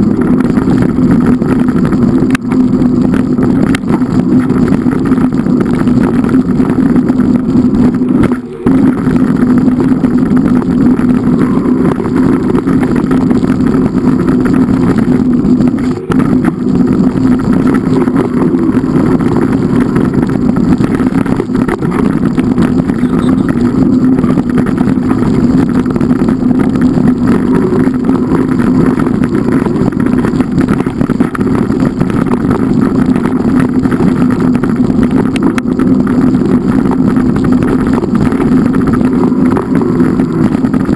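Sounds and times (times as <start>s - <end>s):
loud engine drone: 0.0s - 40.9s.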